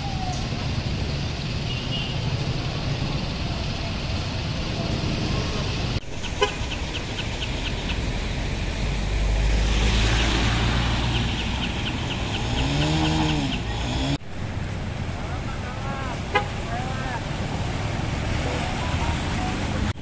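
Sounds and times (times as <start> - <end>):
traffic engines: 0.0 - 20.0
vehicle passing close: 0.0 - 20.0.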